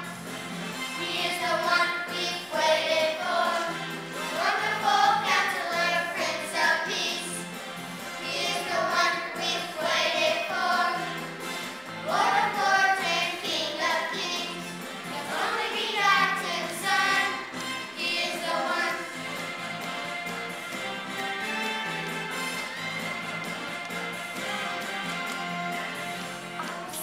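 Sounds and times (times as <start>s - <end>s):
musical accompaniment: 0.0s - 27.0s.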